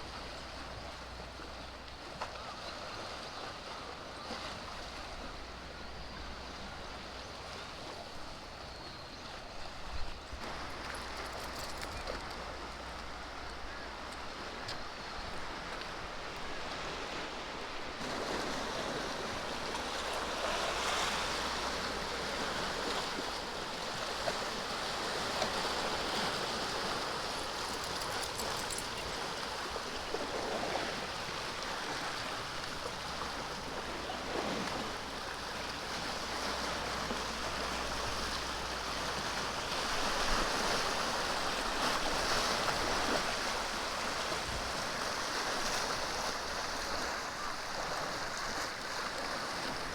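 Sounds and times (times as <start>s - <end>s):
small waves lapping on shore: 0.0s - 49.9s.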